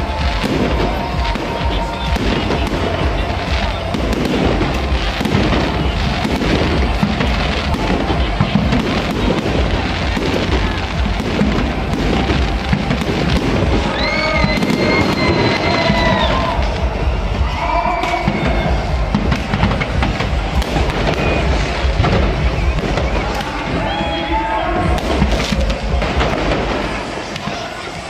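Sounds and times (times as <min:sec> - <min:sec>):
fireworks bangs and pops: 0:00.0 - 0:28.0.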